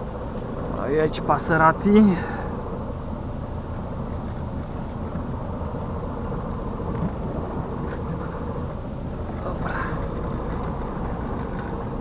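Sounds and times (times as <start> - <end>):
diesel engine running at low revs: 0.0 - 12.0.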